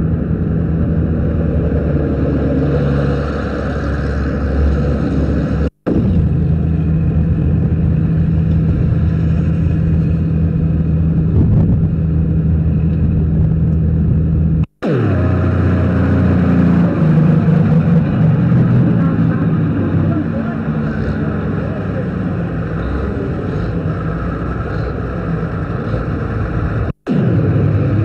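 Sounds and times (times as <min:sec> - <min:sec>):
road noise rumble: 0:00.0 - 0:28.0
vehicle engine hum: 0:00.0 - 0:28.0.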